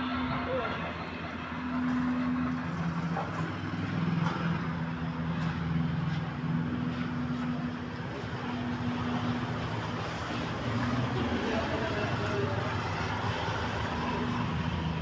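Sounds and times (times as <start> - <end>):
outdoor noise: 0.0 - 15.0
vehicle engine humming: 0.0 - 15.0.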